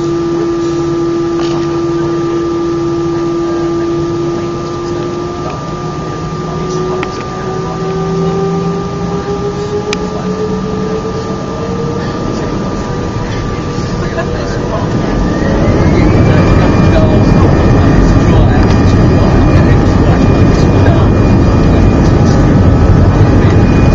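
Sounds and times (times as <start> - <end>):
jet engine whine rising: 0.0 - 23.9.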